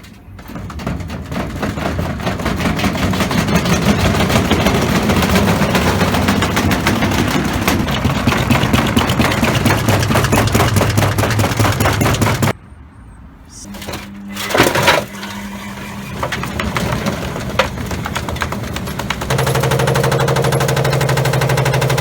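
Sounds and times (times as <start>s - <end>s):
objects banging in washing machine drum: 0.0s - 12.5s, 13.7s - 22.0s
washing machine motor hum: 0.0s - 12.5s, 13.7s - 22.0s.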